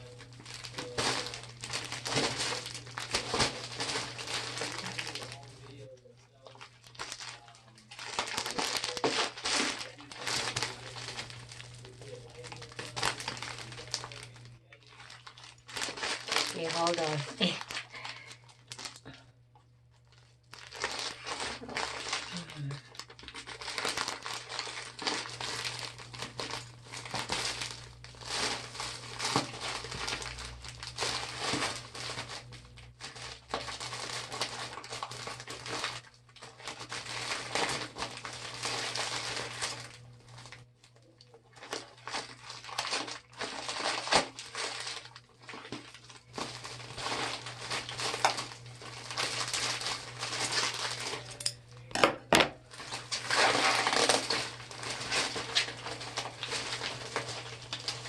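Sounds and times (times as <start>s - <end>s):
packaging crinkling and rustling: 0.0s - 58.0s.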